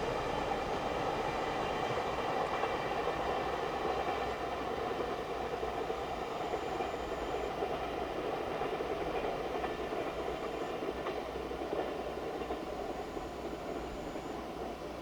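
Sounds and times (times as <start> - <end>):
train wheels rolling on rail: 0.0 - 15.0.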